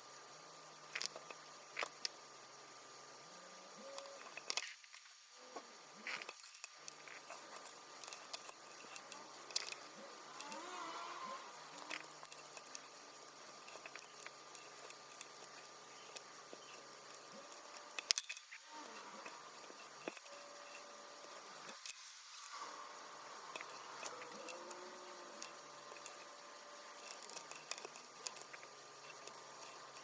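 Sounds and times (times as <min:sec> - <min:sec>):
steady low hum: 0:00.0 - 0:30.0
clicks of small tools and parts: 0:00.9 - 0:02.2, 0:03.8 - 0:05.1, 0:06.0 - 0:22.6, 0:23.5 - 0:30.0.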